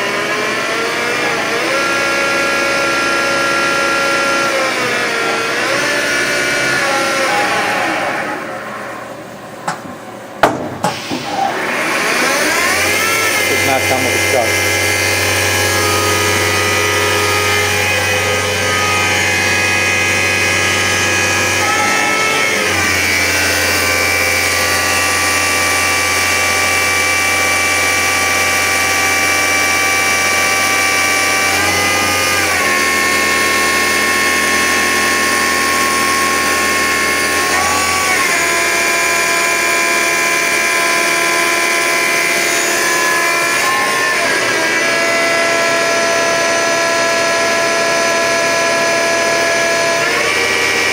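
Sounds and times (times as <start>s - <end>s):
lathe motor whine: 0.0s - 50.9s.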